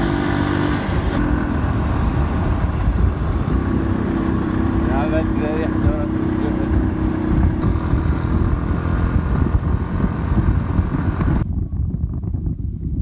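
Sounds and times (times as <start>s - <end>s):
motorcycle engine and road noise: 0.0s - 13.0s
wind rushing over microphone: 0.0s - 13.0s.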